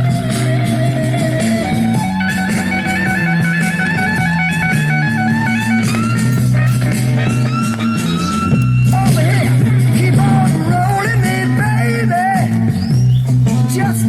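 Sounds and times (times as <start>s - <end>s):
rock music through speakers: 0.0s - 14.0s.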